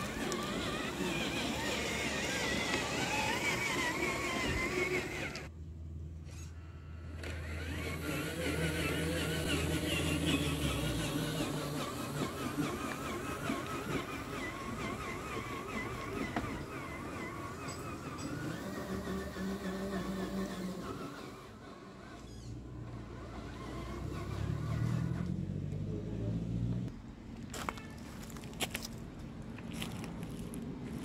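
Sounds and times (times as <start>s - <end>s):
toy truck motor whining: 0.0s - 5.5s, 6.2s - 25.9s.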